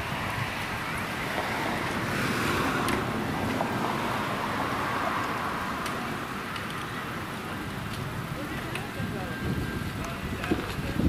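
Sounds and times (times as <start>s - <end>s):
vehicle passing: 0.0s - 10.0s.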